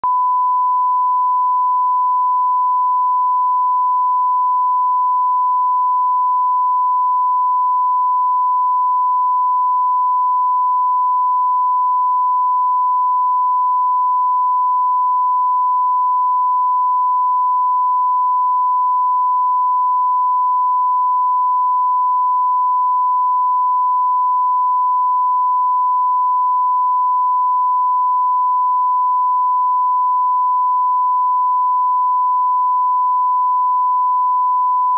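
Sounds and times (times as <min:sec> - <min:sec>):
pure sine reference tone: 0:00.0 - 0:34.9.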